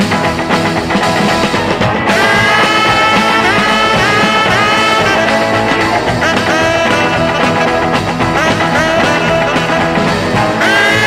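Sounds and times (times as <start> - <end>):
rock and roll band record: 0.0 - 11.0.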